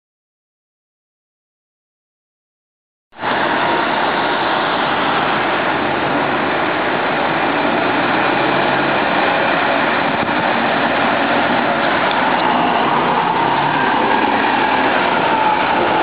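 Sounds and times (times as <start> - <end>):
bus diesel engine: 3.2 - 16.0
traffic noise: 3.2 - 16.0.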